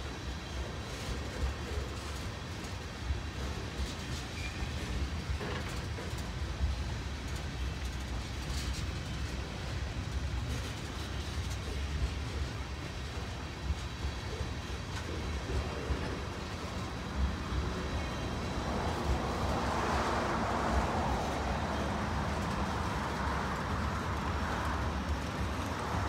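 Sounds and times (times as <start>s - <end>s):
train rumbling by: 0.0s - 26.0s.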